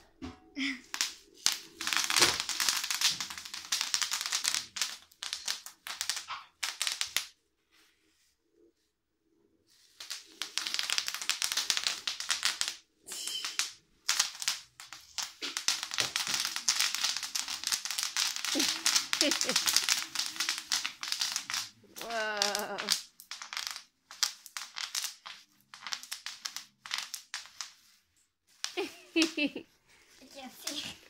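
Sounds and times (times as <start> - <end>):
bubble wrap popping: 0.6 - 7.4, 9.8 - 31.0.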